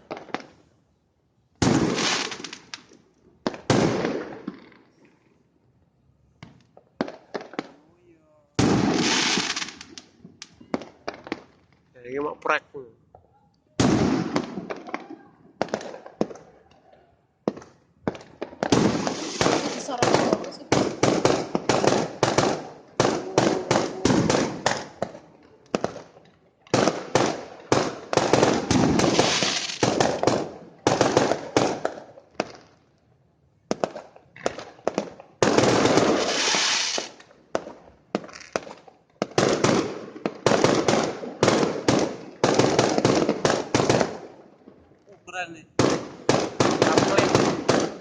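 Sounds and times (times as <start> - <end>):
fireworks bursting: 1.6 - 5.1, 8.6 - 11.7, 13.8 - 16.8, 17.4 - 32.7, 33.7 - 44.4, 45.2 - 48.0.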